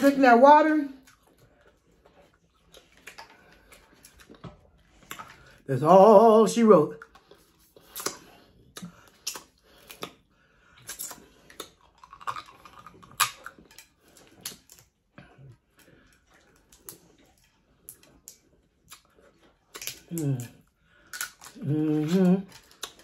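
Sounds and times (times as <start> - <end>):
chewing: 0.9 - 5.7, 6.9 - 23.0.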